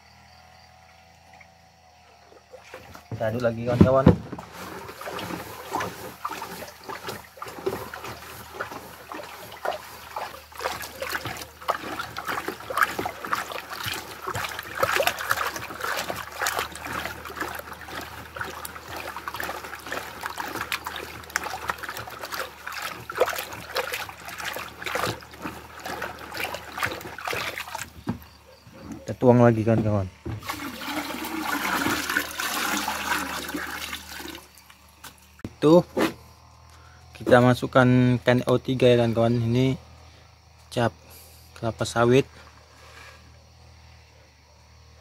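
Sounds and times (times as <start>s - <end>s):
water sloshing in a bucket: 0.6s - 43.7s.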